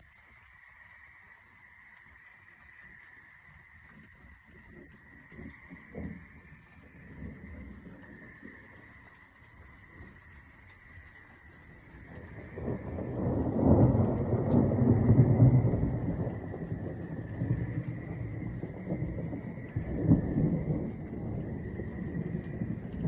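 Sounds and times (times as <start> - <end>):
thunder rumbling: 4.4 - 23.0.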